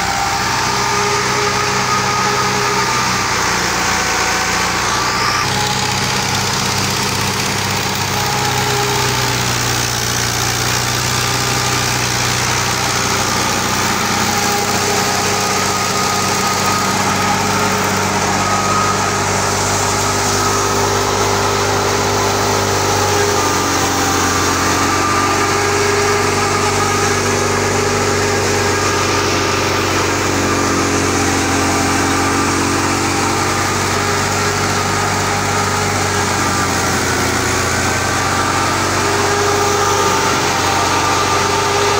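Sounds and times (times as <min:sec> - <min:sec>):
thresher drum and pulleys running: 0:00.0 - 0:41.9
tractor diesel engine running: 0:00.0 - 0:41.9.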